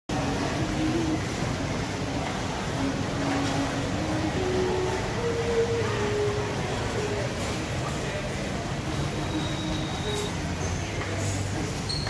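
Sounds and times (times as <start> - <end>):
vehicle rumble: 0.1 - 11.9.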